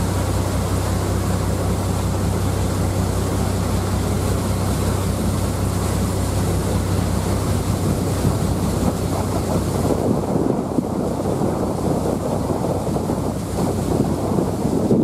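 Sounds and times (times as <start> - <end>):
ferry engine low hum: 0.0 - 15.0
water rushing past hull: 0.0 - 15.0
wind buffeting microphone: 0.0 - 15.0.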